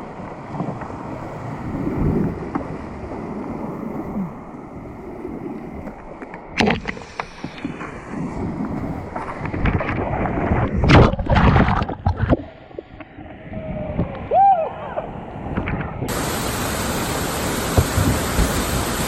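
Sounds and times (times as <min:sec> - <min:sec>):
wind buffeting microphone: 0:00.0 - 0:06.2, 0:07.4 - 0:19.0
rushing river water: 0:00.0 - 0:13.4, 0:16.1 - 0:19.0
water splashes: 0:00.0 - 0:13.4, 0:16.0 - 0:19.0.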